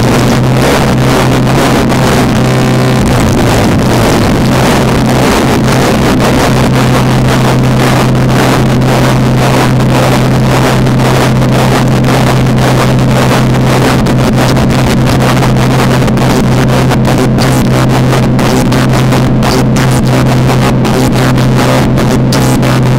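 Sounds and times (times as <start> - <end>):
electronic noise drone: 0.0 - 22.9.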